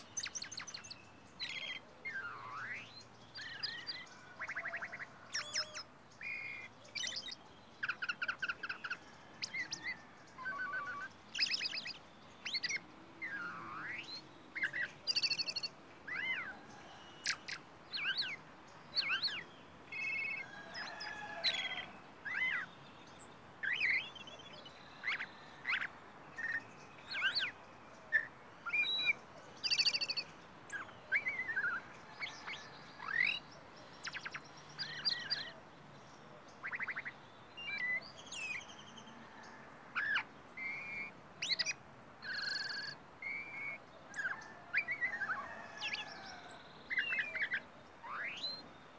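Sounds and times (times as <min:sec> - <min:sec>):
songbird singing whistles and trills: 0:00.0 - 0:35.6, 0:36.6 - 0:39.1, 0:40.0 - 0:48.8.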